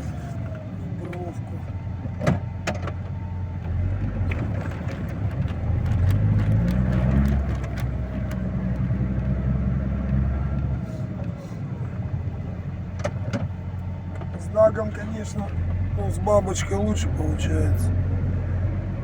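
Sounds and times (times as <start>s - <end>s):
snowplough engine under load: 0.0s - 19.0s.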